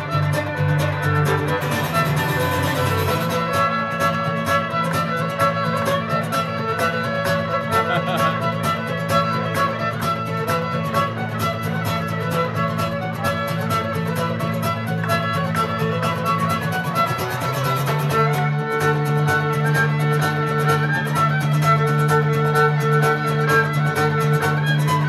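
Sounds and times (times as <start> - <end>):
fiddle playing a folk tune: 0.0 - 25.0
strummed guitar: 0.0 - 25.0.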